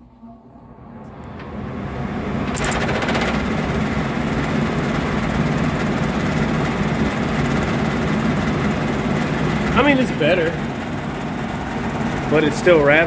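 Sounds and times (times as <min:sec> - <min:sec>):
furnace blower motor rattling: 0:00.7 - 0:13.0.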